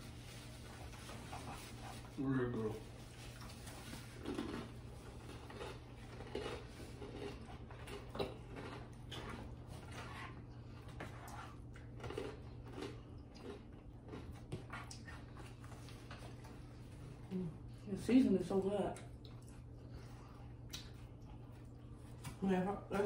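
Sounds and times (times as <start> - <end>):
steady low hum: 0.0 - 23.0
people chewing and lip smacking: 2.8 - 17.8, 18.9 - 22.4.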